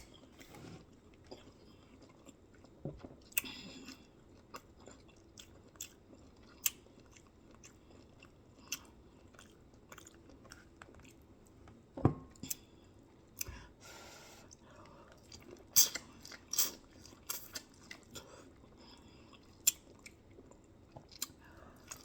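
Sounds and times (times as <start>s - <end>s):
chewing and crunching food: 0.0s - 13.8s, 14.5s - 22.0s.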